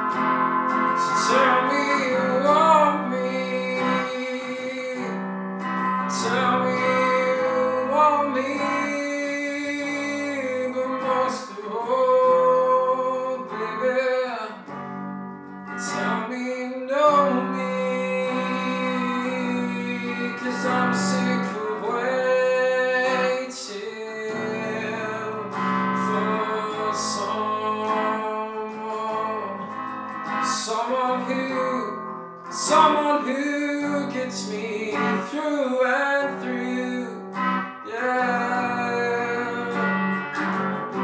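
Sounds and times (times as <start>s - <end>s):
electric guitar playing: 0.0s - 41.0s
man singing: 0.7s - 14.9s, 15.7s - 41.0s.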